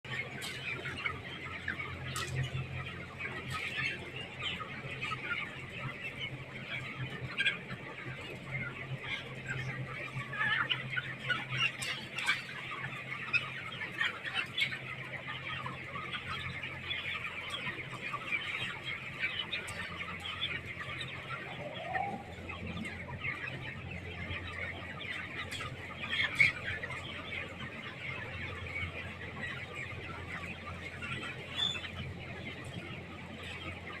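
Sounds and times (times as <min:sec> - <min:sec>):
chickens clucking and chirping: 0:00.0 - 0:34.0.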